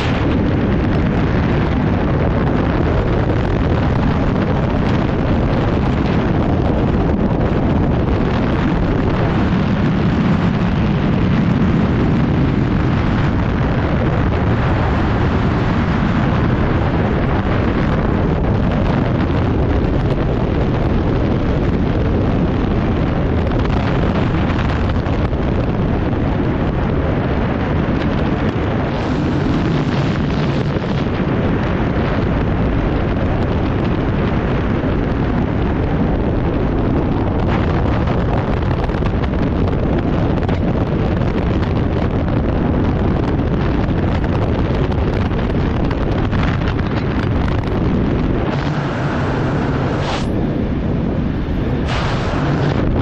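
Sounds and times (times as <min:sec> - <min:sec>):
wind rushing over microphone: 0:00.0 - 0:53.0.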